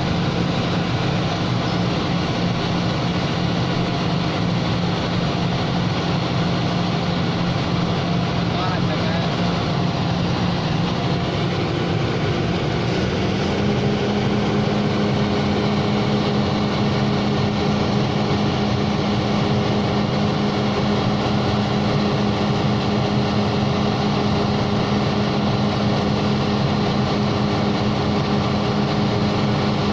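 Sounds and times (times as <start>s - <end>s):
pile-driving machine engine running: 0.0s - 29.9s.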